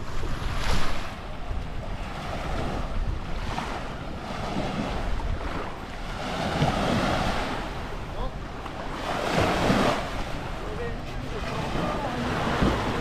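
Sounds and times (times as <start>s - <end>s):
sea waves washing onto shore: 0.0s - 13.0s
wind buffeting microphone: 0.0s - 13.0s.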